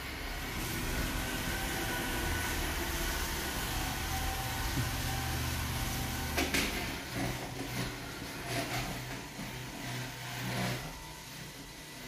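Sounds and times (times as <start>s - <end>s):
robot vacuum motor hum: 0.0s - 12.0s.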